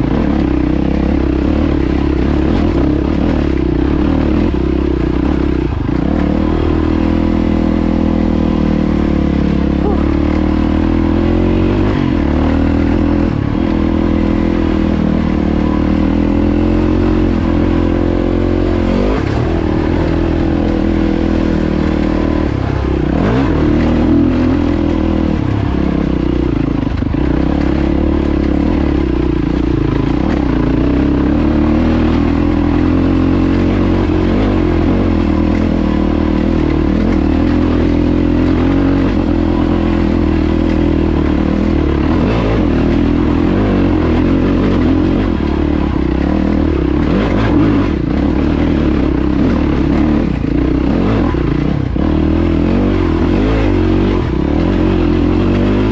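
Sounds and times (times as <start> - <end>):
dirt bike engine running: 0.0 - 55.9.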